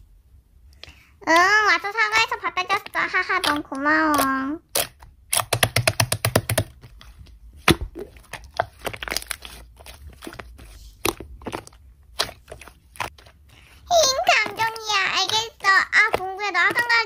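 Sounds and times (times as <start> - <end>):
slime crackling and popping: 1.3 - 6.8, 7.6 - 17.0.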